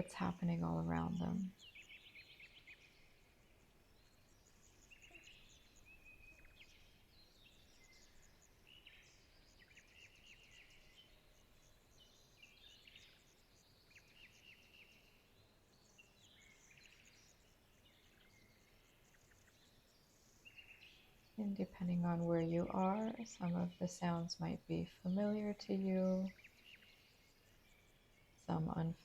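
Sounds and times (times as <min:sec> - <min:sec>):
birds chirping and trilling: 0:00.0 - 0:29.0
soft background hiss: 0:00.0 - 0:29.0.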